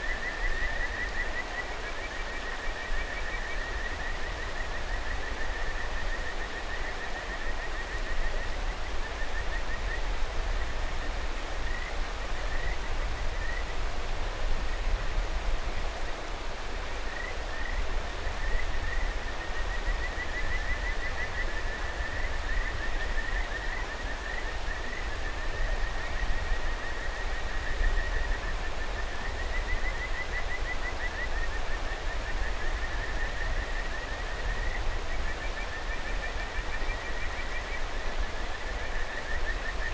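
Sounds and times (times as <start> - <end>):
frogs calling in whistled notes: 0.0 - 10.7, 11.6 - 13.7, 16.9 - 39.9.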